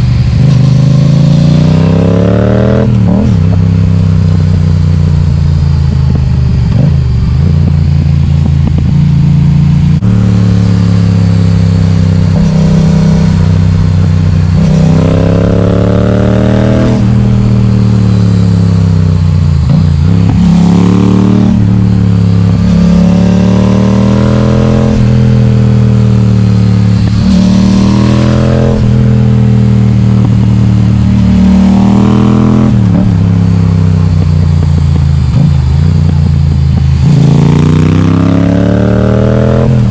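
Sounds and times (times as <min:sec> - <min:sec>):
loud motorcycle engine accelerating: 0:00.0 - 0:39.9.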